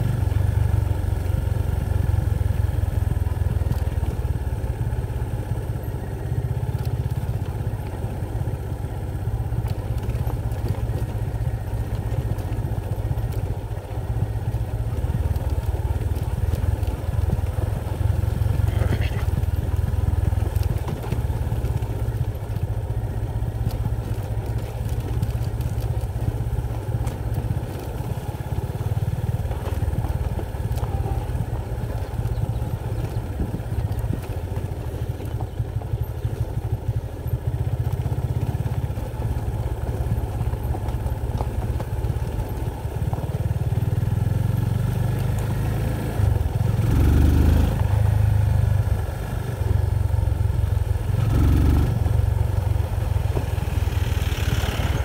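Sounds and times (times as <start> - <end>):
vehicle low rumble: 0.0 - 55.0.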